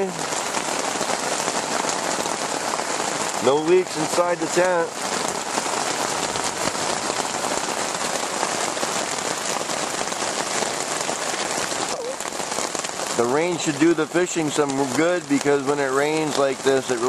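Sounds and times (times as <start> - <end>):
heavy rain on a tent: 0.0 - 17.0.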